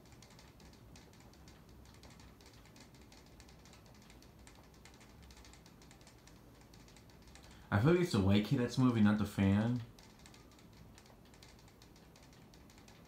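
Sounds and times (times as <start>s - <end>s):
ceiling fan humming: 0.0s - 13.0s
light rapid ticking: 0.0s - 13.0s.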